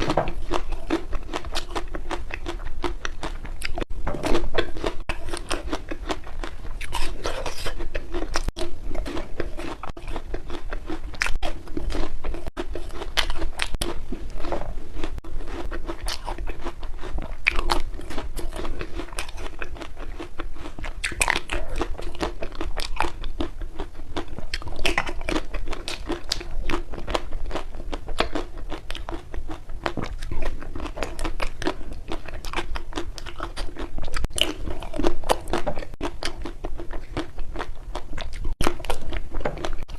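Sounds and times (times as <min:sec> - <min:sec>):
crunching ice cream: 0:00.0 - 0:39.9.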